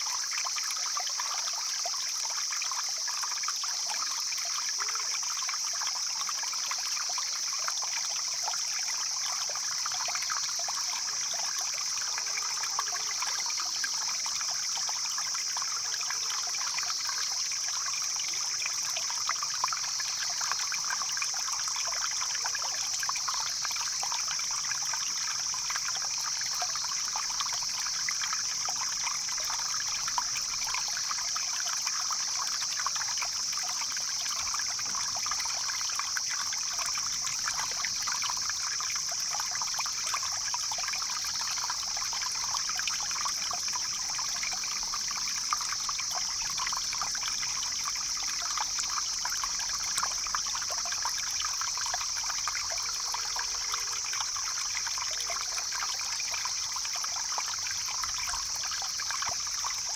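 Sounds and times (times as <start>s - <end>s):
steady high-pitched hiss: 0.0s - 59.9s
stream flowing over rocks: 0.0s - 59.9s.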